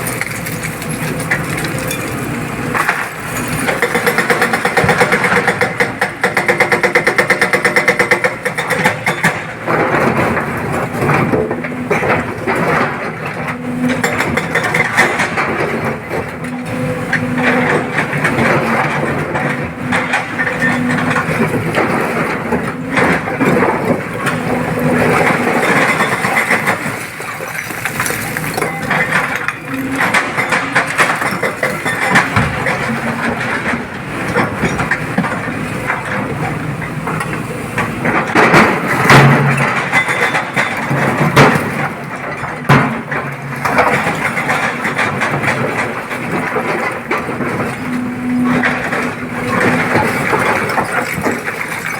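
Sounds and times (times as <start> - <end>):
excavator engine running: 0.0 - 51.9.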